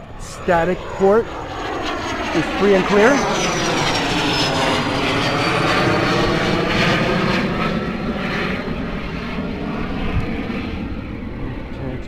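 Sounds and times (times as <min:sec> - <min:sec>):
aircraft engine with high whine: 0:00.0 - 0:12.0.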